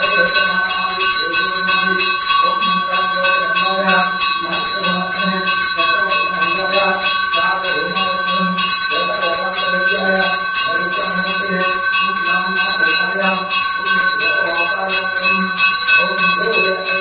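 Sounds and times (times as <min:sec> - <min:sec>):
brass hand bell ringing: 0:00.0 - 0:17.0
person chanting: 0:00.0 - 0:17.0.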